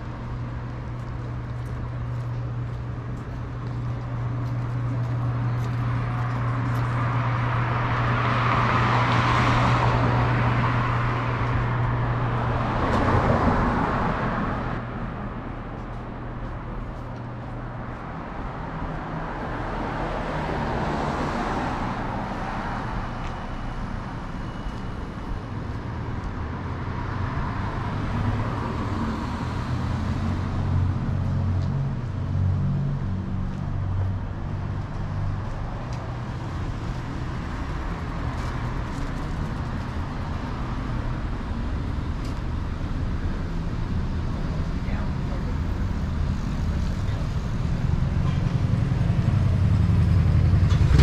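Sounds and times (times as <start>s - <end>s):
low engine rumble: 0.0s - 19.9s, 21.8s - 51.0s
cars driving past: 0.0s - 51.0s.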